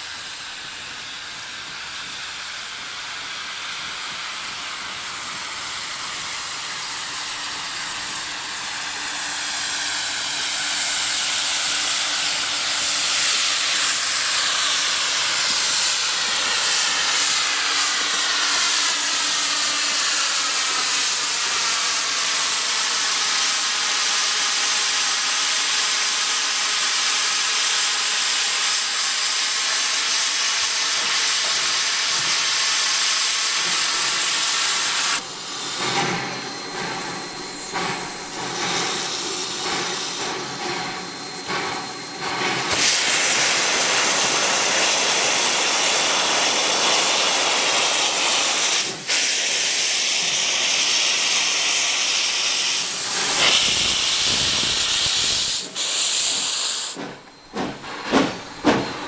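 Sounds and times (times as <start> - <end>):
steam locomotive hissing: 0.0 - 59.0.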